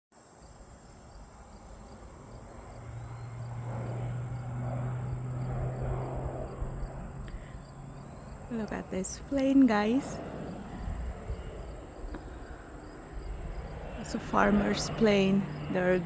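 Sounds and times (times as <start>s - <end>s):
crickets chirping: 0.2s - 16.0s
spray plane engine passing over: 1.0s - 16.0s.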